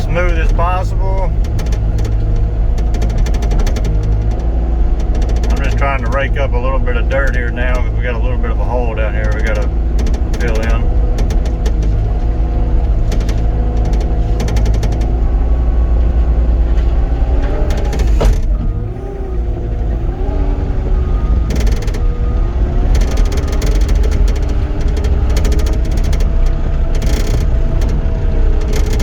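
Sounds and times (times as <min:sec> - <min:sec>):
diesel engine under changing load: 0:00.0 - 0:29.0
metallic clatter and rattling: 0:00.0 - 0:29.0.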